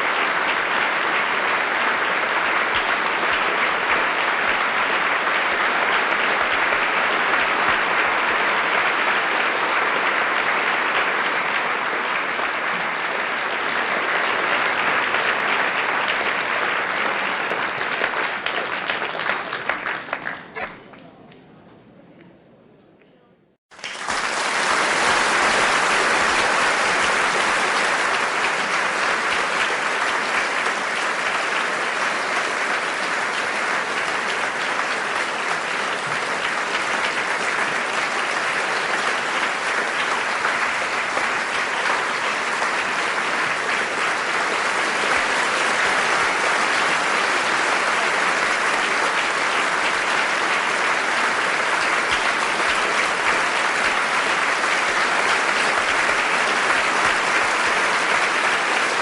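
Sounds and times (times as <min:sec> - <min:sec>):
large audience applauding: 0:00.0 - 0:21.0, 0:23.7 - 0:59.0.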